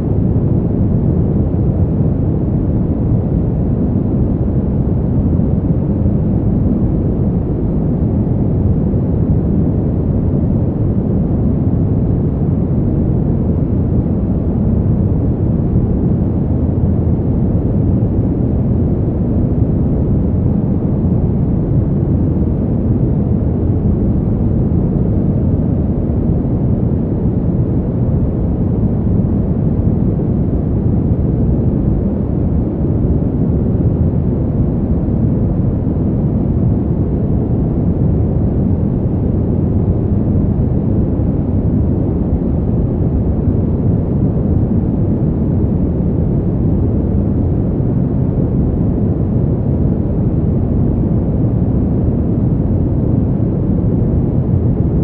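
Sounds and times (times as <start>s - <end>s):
low steady wind: 0.0s - 55.0s.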